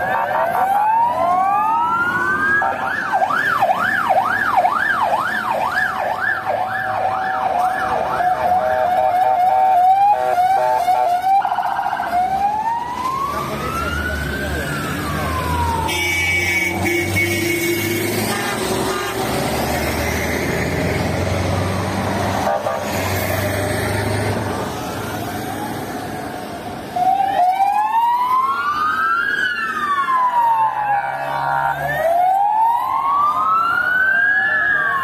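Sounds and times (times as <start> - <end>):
heavy traffic rumbling past: 0.0 - 35.0
police siren wailing: 0.0 - 35.0.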